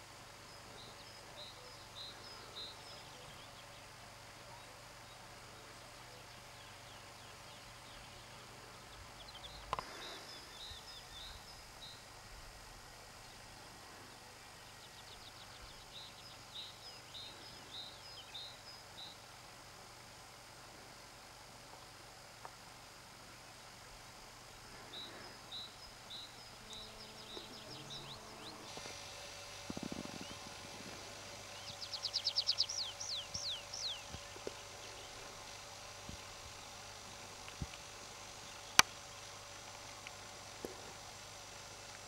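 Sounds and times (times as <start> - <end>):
songbird singing: 0.0 - 20.4, 23.3 - 42.0.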